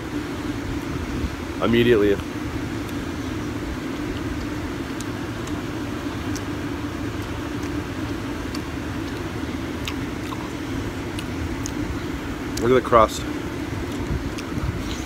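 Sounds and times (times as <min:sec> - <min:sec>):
city background hum: 0:00.0 - 0:15.0.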